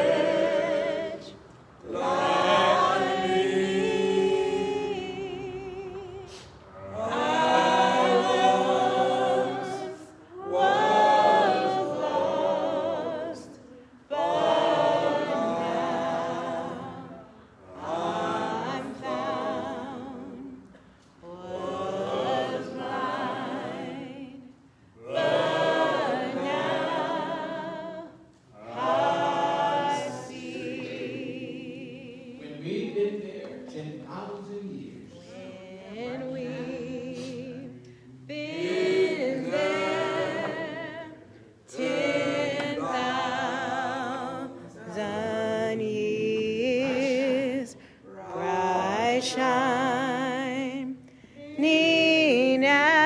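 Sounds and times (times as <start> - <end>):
choir singing: 0.0 - 33.9, 35.0 - 53.0.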